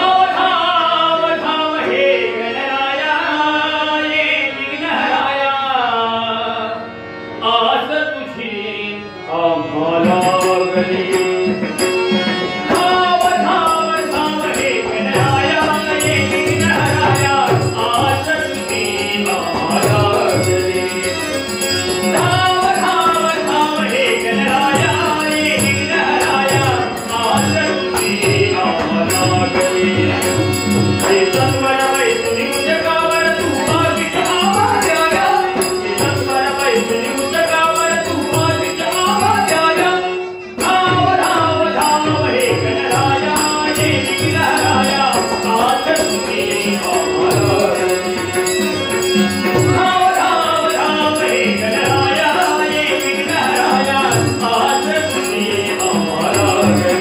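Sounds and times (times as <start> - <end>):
harmonium melody over drone: 0.0 - 57.0.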